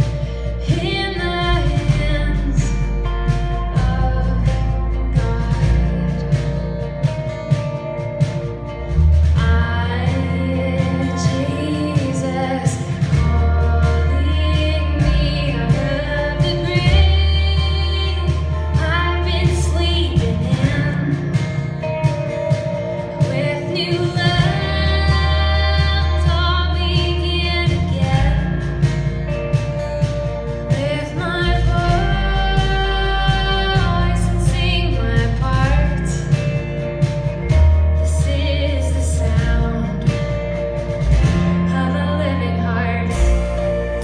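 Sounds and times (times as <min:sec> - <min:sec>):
band accompaniment: 0:00.0 - 0:44.0
sustained bass notes: 0:00.0 - 0:44.0
woman singing pop song: 0:00.0 - 0:44.0.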